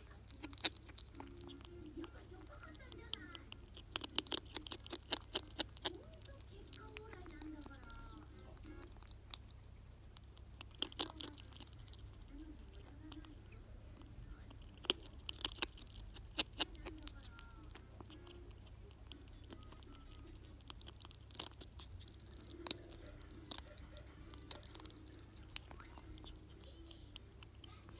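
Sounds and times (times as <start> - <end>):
ferret crunching dry kibble: 0.0 - 27.9
quiet chewing: 0.0 - 27.9.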